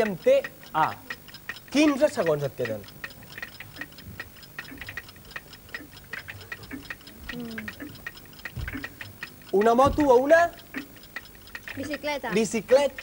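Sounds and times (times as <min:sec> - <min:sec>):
countdown clock ticking quickly: 0:00.0 - 0:13.0.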